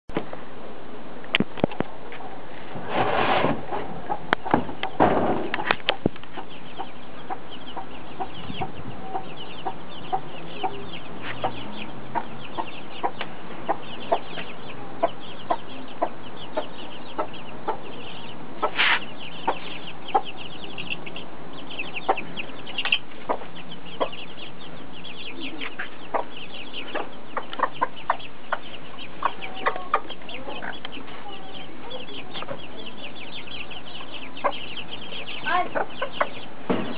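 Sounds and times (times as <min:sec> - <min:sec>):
chicks peeping: 0:01.3 - 0:36.9
hen clucking: 0:03.4 - 0:36.9.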